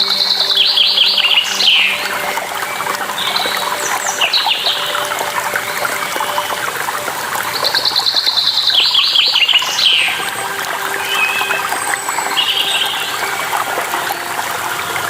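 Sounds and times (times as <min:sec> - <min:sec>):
running water: 0:00.0 - 0:15.0
songbirds chirping: 0:00.0 - 0:15.0.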